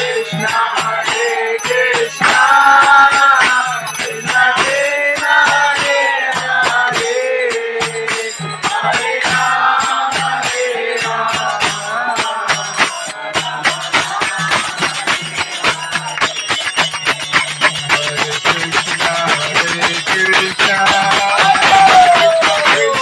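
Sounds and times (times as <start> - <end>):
group of voices singing: 0.0 - 23.0
jingling metallic percussion: 0.0 - 23.0.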